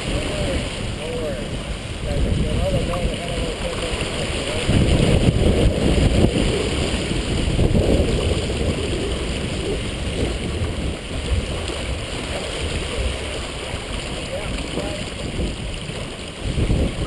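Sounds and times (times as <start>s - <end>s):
water rushing along a hull: 0.0s - 17.0s
wind buffeting microphone: 0.0s - 17.0s.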